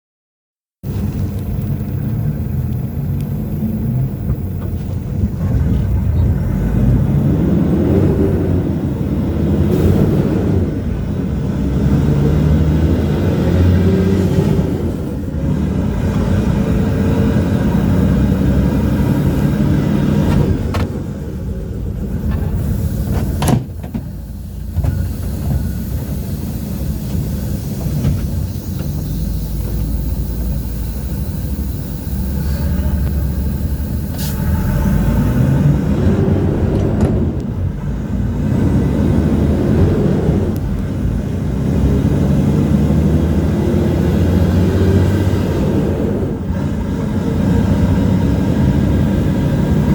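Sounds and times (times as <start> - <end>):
bus engine accelerating: 0.8 - 49.9.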